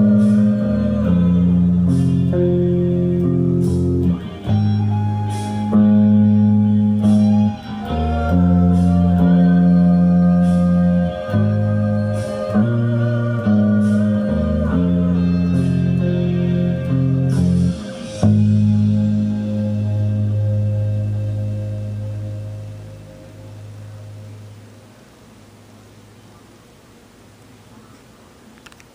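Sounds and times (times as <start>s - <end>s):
guitar plucked chords: 0.0s - 25.0s.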